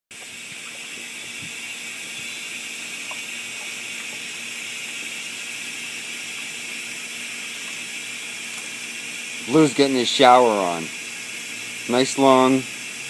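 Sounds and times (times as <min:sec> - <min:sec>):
shower water spraying: 0:00.1 - 0:13.0.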